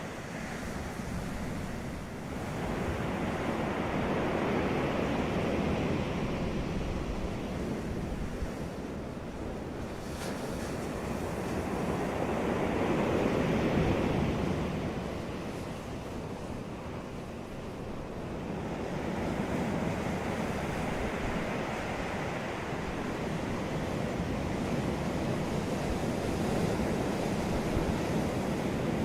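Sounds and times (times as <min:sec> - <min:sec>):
sea waves breaking on beach: 0:00.0 - 0:29.0.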